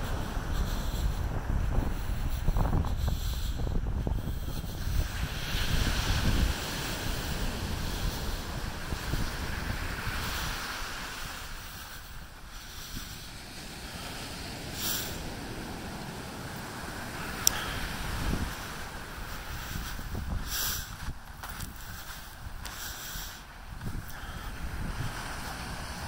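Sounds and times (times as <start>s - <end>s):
wind buffeting microphone: 0.0s - 26.0s
ocean surf breaking: 4.3s - 26.0s.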